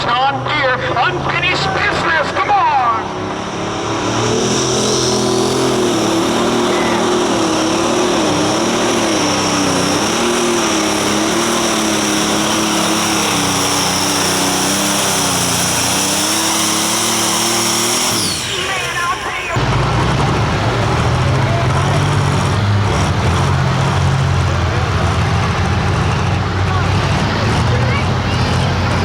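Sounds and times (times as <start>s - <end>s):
diesel engine at full load: 0.0s - 29.0s.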